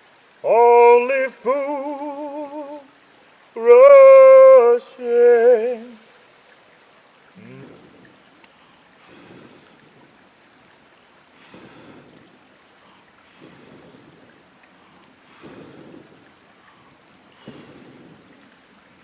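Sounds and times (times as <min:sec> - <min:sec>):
water lapping in small waves: 0:00.0 - 0:19.0.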